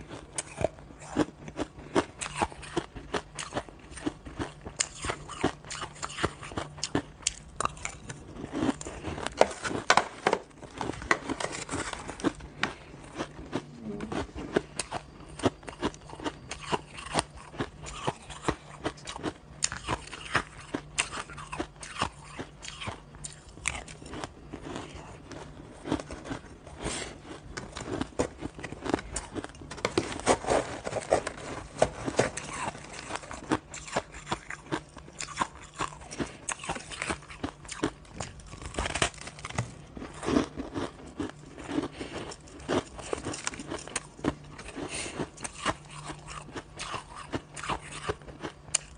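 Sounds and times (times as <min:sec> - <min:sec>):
crunching and chewing shaved ice: 0:00.0 - 0:48.9.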